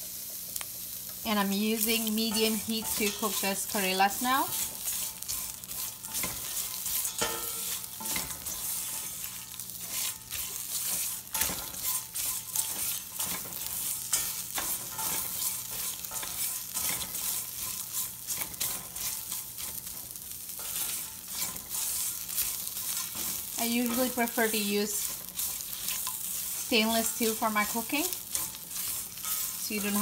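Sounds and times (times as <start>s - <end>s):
vegetable slices sizzling in pan: 0.0s - 30.0s
spatula scraping pan: 1.7s - 30.0s.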